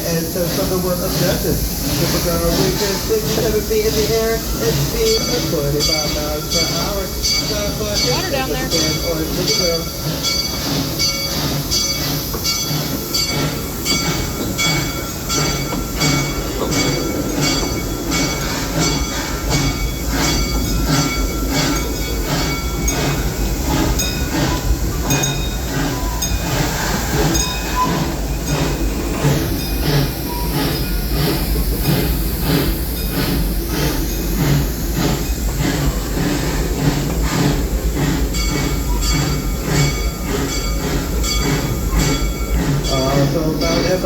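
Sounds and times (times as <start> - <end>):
train rumbling on track: 0.0 - 44.0.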